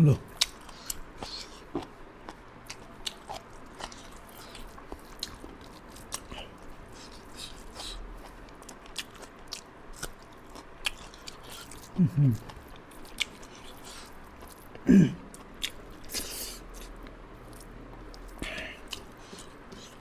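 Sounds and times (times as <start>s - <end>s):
person chewing crunchy food: 0.3s - 20.0s.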